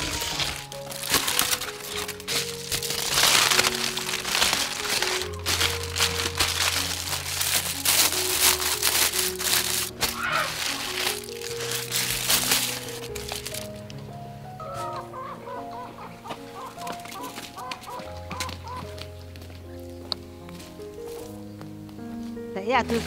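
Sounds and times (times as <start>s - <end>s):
aluminium foil crinkling: 0.0s - 15.3s, 16.0s - 19.7s
background music: 0.0s - 23.0s.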